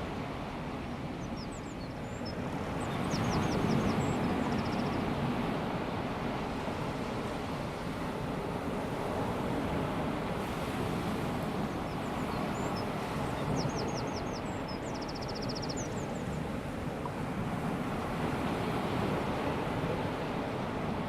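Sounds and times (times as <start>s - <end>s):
small waves washing on shore: 2.2s - 21.0s.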